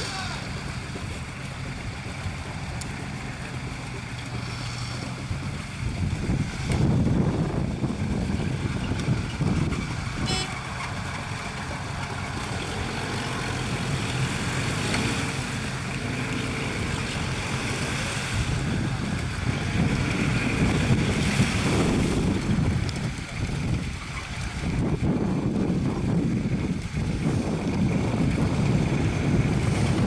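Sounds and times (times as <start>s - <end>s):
off-road vehicle engine running: 0.0s - 30.0s
wind buffeting microphone: 0.0s - 30.0s.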